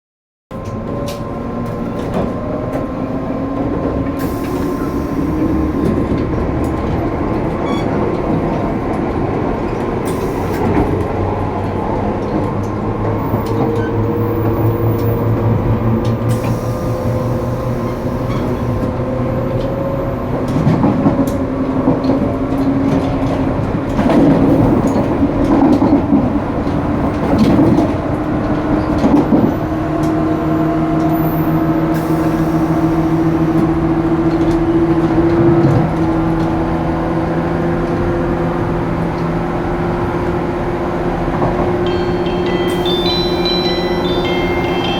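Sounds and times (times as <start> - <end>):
train running noise: 0.5 - 44.9.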